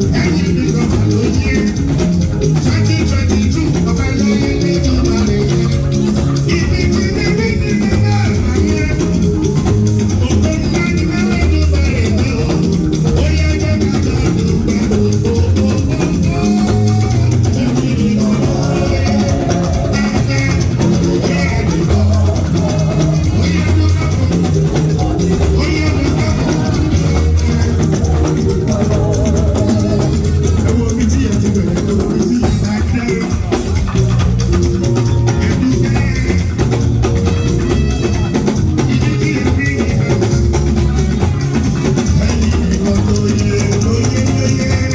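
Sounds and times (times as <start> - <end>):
band playing with drums and guitar: 0.0 - 44.9
person singing: 0.0 - 44.9.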